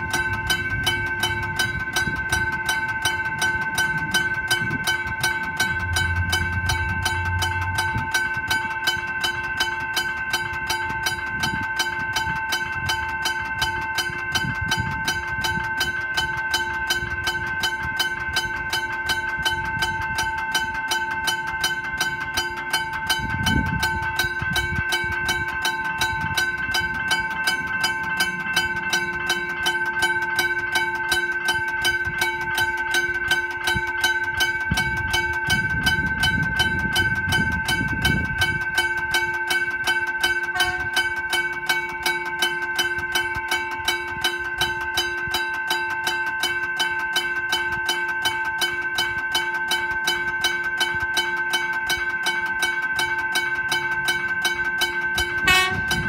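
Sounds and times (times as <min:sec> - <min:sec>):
level-crossing bell ringing: 0:00.0 - 0:56.0.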